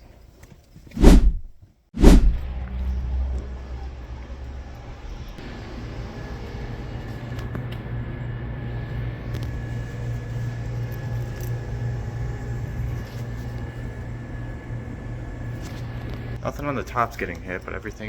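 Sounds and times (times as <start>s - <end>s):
low mechanical hum: 1.0s - 18.0s.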